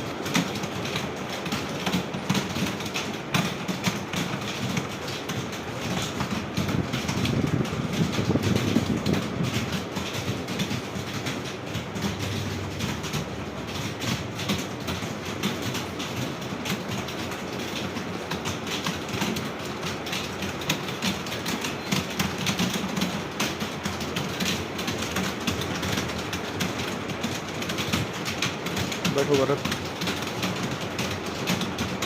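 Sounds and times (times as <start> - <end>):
many keyboards typing: 0.0 - 32.0.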